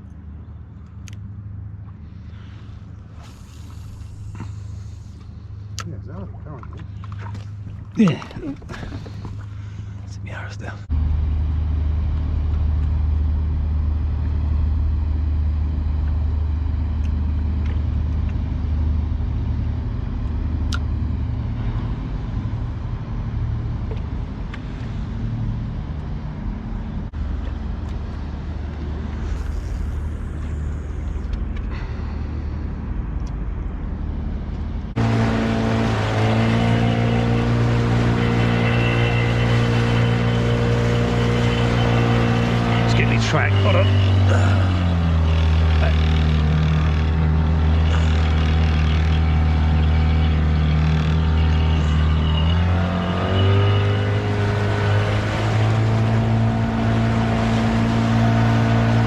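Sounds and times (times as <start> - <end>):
outboard motor running: 1.8 - 59.0.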